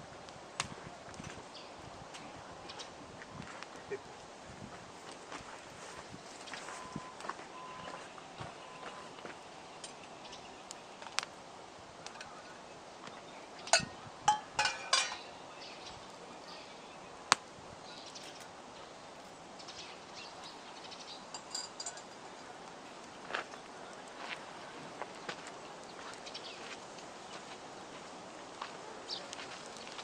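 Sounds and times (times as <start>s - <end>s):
campfire crackling and popping: 0.1s - 5.5s, 8.4s - 15.9s, 17.2s - 30.0s
faint birds chirping: 1.4s - 4.4s, 5.0s - 30.0s.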